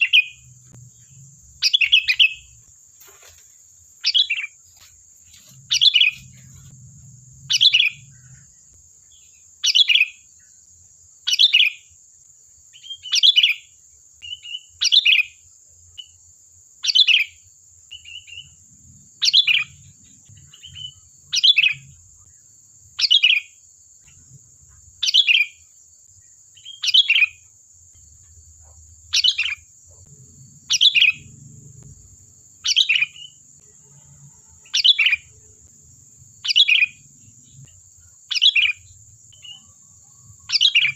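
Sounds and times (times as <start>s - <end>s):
soft bird chirps: 0.0s - 12.0s, 12.6s - 16.2s, 16.8s - 18.6s, 19.2s - 40.9s.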